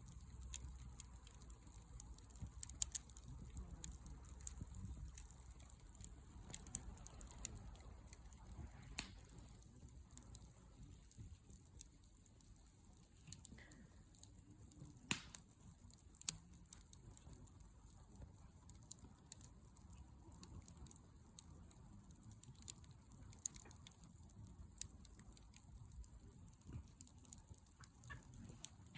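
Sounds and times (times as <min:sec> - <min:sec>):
campfire crackling: 0:00.0 - 0:28.9
faint low steady noise: 0:00.0 - 0:28.9.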